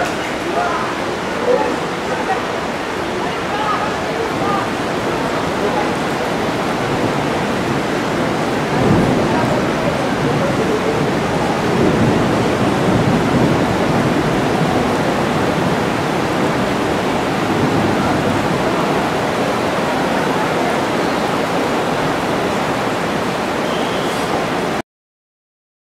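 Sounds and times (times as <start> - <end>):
steady rain hiss: 0.0 - 24.8.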